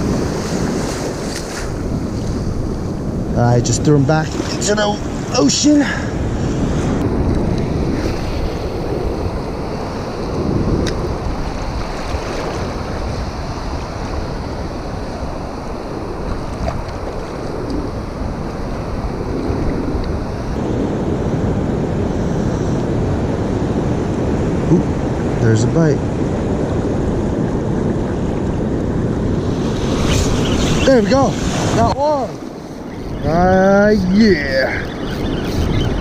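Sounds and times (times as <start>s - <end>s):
ocean surf washing in: 0.0s - 36.0s
wind rumbling on microphone: 0.0s - 36.0s.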